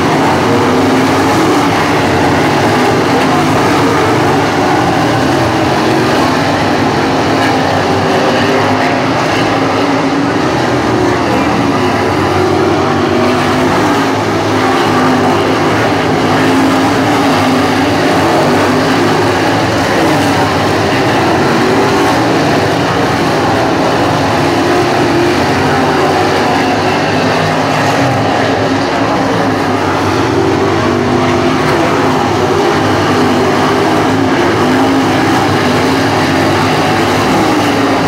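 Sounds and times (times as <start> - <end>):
race car engines roaring: 0.0 - 38.0.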